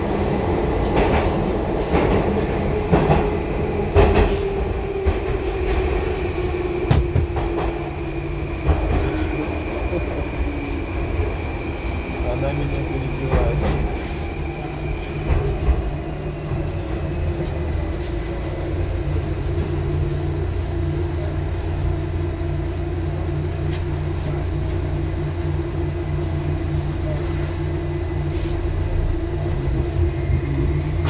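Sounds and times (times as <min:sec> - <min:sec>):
metro train braking: 0:00.0 - 0:31.0.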